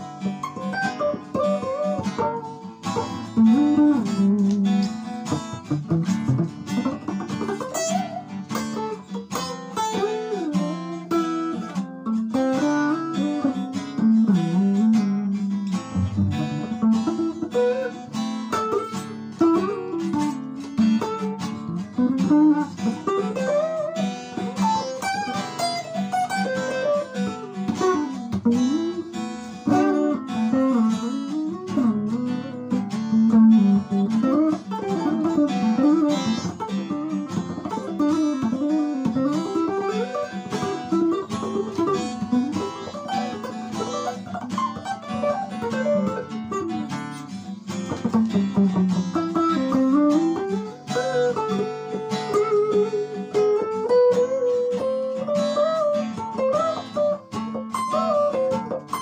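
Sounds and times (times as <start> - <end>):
electric guitar lead through amplifier: 0.0 - 59.0.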